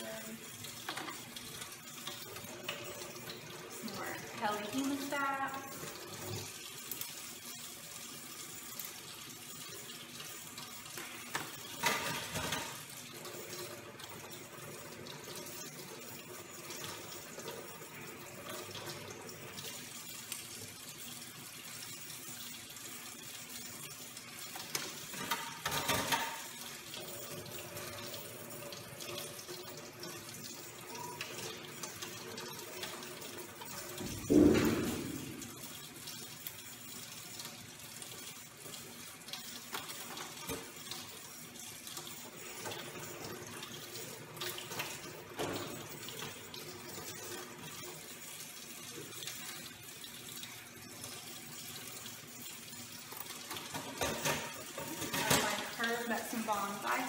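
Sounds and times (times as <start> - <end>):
metal instruments being rinsed: 0.0 - 57.0
tap water running into a sink: 0.0 - 57.0.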